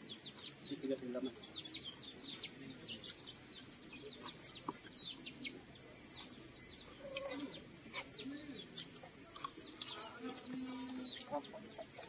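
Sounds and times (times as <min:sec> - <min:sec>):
chickens clucking: 0:00.0 - 0:12.0
chickens peeping: 0:00.0 - 0:12.0.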